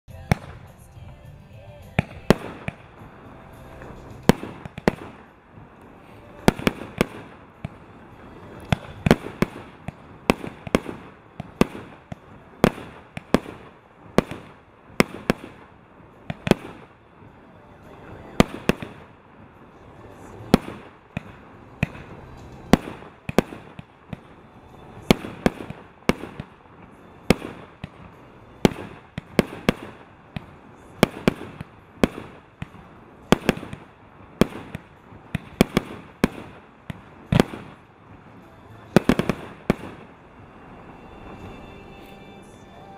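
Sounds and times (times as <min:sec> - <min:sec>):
firework bangs: 0:00.1 - 0:42.9
low hiss: 0:00.1 - 0:42.9.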